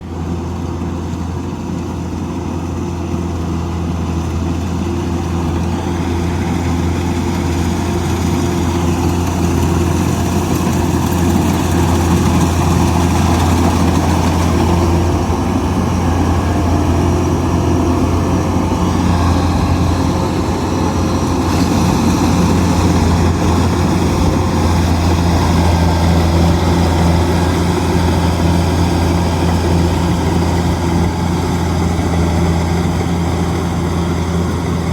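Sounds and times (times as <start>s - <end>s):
harvester diesel engine droning: 0.0s - 34.9s.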